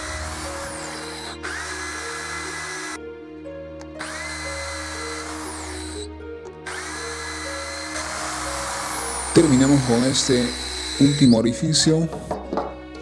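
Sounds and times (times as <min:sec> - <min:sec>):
electric drill whining: 0:00.0 - 0:03.0, 0:03.8 - 0:12.7
background music: 0:00.0 - 0:13.0.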